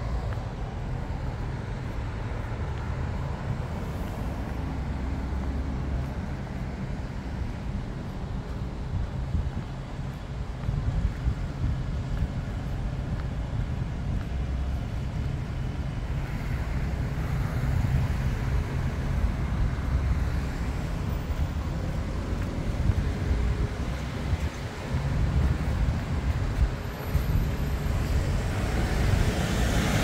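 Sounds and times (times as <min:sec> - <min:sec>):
traffic low rumble: 0:00.0 - 0:30.0.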